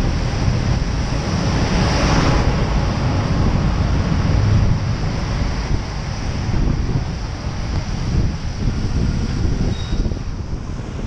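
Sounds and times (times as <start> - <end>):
traffic: 0.0 - 11.0
tyres hissing on wet road: 0.0 - 11.0
wind buffeting microphone: 0.0 - 11.0.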